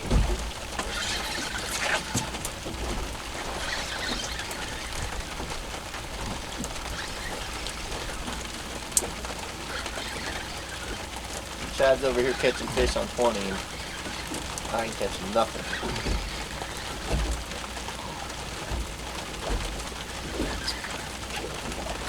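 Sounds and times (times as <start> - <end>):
wind and water hiss: 0.0 - 22.0
faint bird calls: 0.4 - 22.0.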